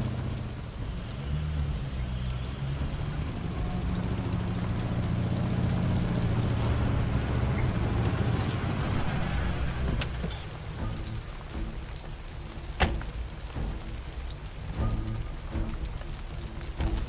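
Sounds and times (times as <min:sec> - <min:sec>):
vehicle engines humming: 0:00.0 - 0:17.0.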